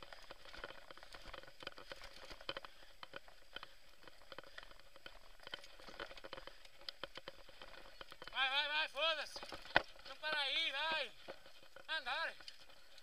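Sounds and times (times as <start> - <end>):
bike rattling over stones: 0.0 - 13.0.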